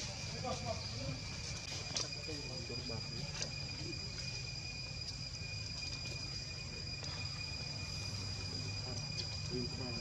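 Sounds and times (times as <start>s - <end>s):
insects high-pitched whine: 0.0s - 10.0s.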